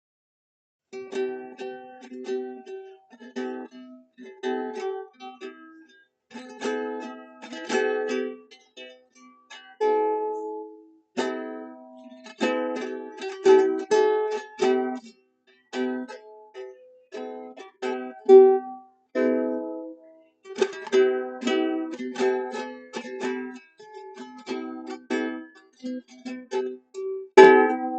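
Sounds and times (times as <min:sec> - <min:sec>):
plucked string instrument strumming: 0:01.0 - 0:27.9.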